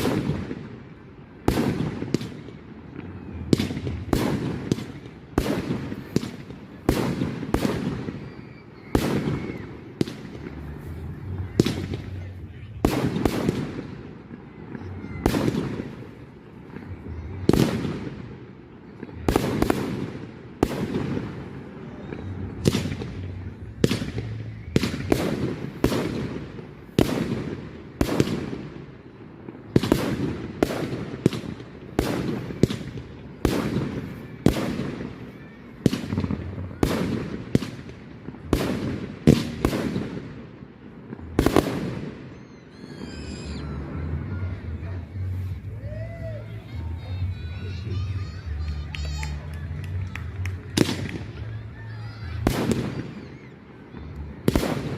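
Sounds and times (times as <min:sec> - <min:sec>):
fireworks bursting: 0:00.0 - 0:54.9.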